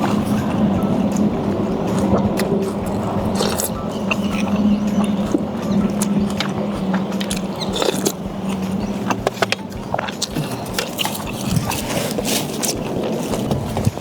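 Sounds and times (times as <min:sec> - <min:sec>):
biting and chewing: 0:00.0 - 0:14.0
low hum: 0:00.0 - 0:14.0.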